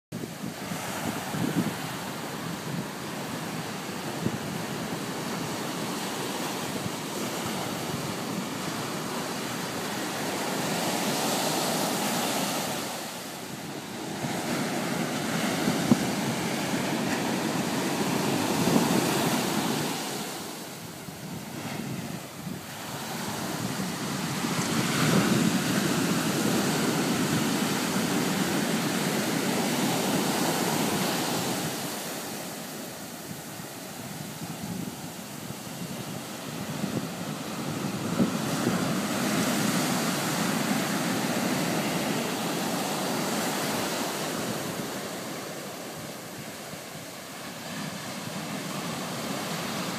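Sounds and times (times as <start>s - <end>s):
ocean surf breaking over rocks: 0.2s - 49.9s.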